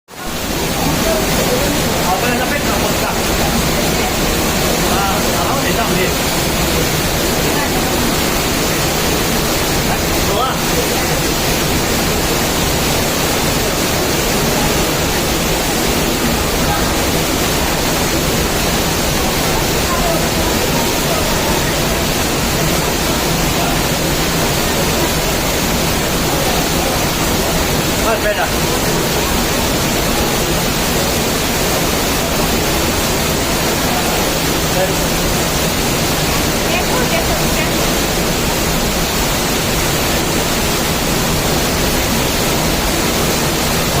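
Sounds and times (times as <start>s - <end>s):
mountain stream rushing: 0.1s - 44.0s.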